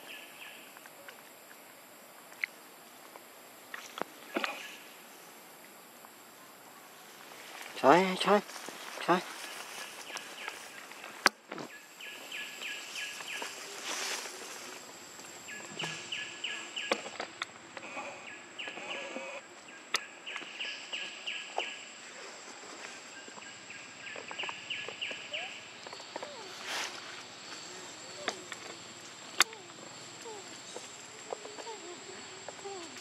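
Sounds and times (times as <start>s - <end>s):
insects high whine: 0.0s - 33.0s
rapid insect chirps: 0.0s - 33.0s.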